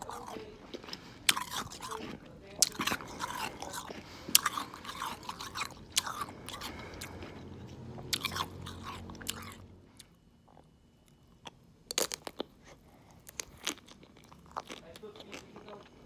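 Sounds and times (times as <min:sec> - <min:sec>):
person crunching ice pop: 0:00.0 - 0:16.0.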